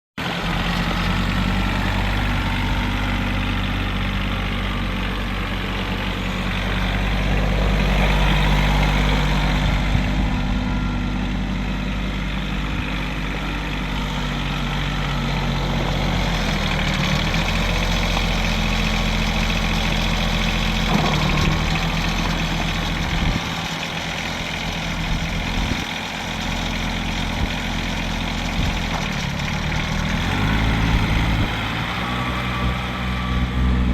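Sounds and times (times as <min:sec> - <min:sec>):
tractor diesel engine running: 0:00.2 - 0:33.9.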